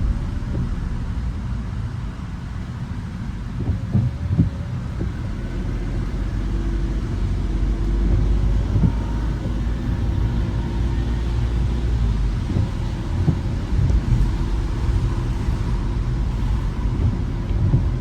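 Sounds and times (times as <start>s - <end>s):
tyres rumbling on wet road: 0.0s - 18.0s.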